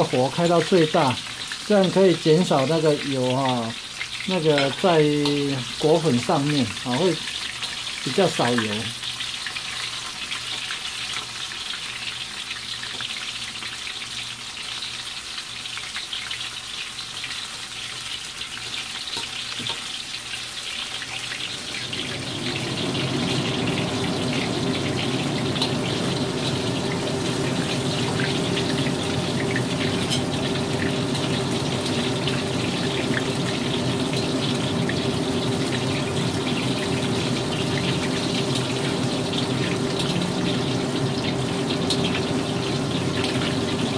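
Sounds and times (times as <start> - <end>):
chicken sizzling in hot oil: 0.0 - 43.9.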